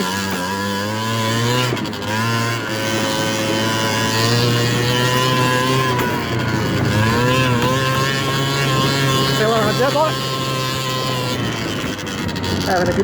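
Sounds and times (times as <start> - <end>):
scooter engine revving: 0.0 - 13.0.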